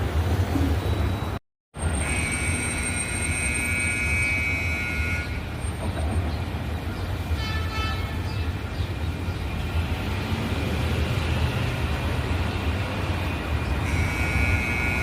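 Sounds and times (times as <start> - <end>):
light rail train rumbling: 0.0 - 15.0.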